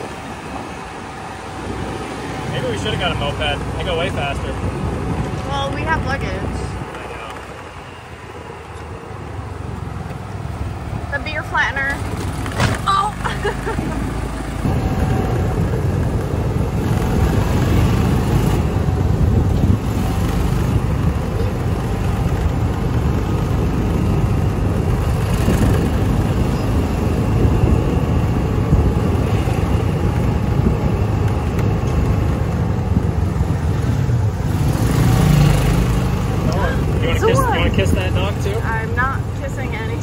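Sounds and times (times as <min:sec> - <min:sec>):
vehicle rumble in motion: 0:00.0 - 0:40.0.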